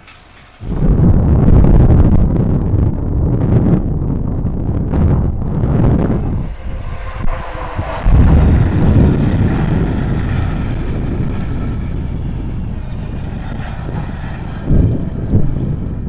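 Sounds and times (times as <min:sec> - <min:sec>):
train passing with rumble: 0:00.0 - 0:16.0.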